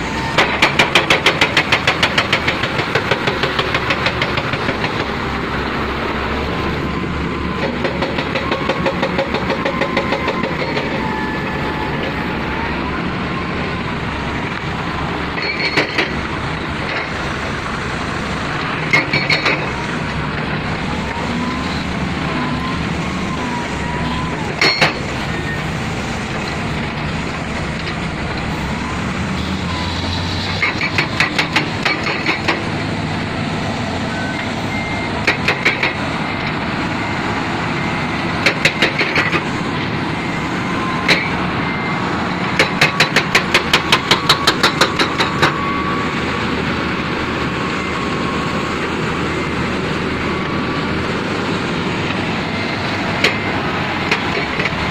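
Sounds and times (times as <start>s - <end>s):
construction machinery running: 0.0s - 54.9s.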